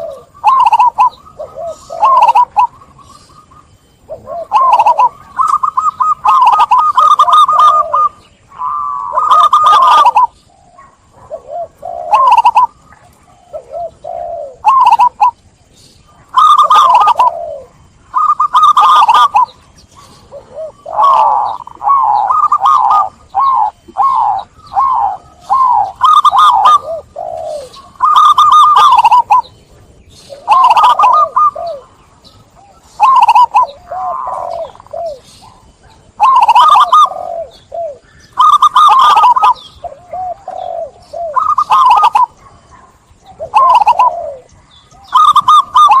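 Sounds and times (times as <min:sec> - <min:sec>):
dove cooing: 0:00.0 - 0:46.0.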